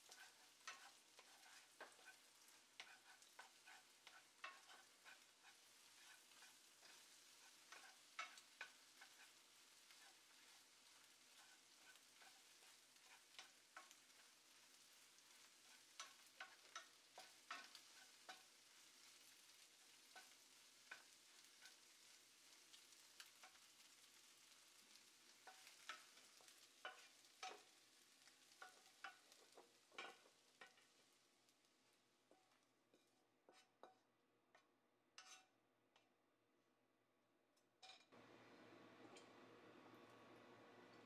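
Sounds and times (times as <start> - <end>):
eggs frying faintly: 0.0 - 35.5, 37.8 - 41.0
wooden spatula tapping and scraping: 0.0 - 36.2.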